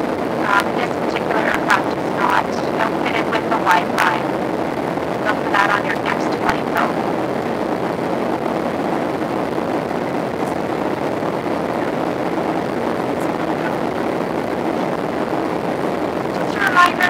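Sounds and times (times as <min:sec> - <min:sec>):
aircraft cabin engine rush: 0:00.0 - 0:17.0.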